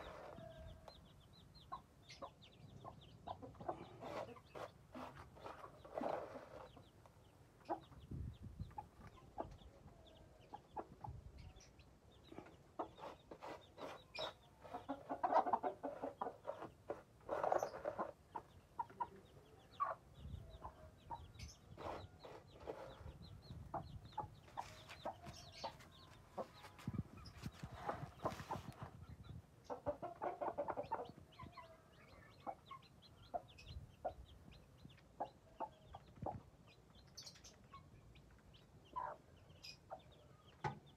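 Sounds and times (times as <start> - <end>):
hen clucking: 0.0 - 40.7.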